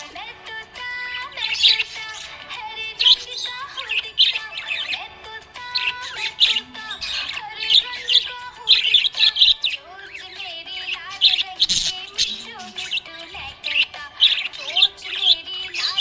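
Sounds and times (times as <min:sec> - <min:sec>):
budgie chirping and warbling: 0:00.8 - 0:16.0.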